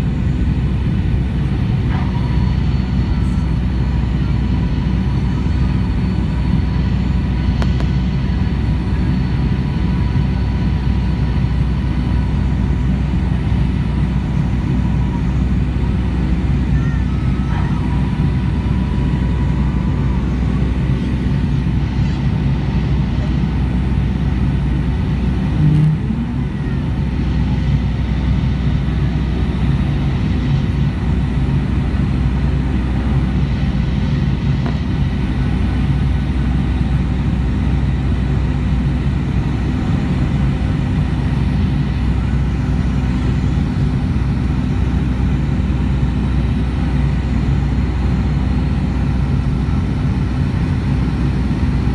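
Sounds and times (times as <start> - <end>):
jet engine drone in cabin: 0.0 - 51.9.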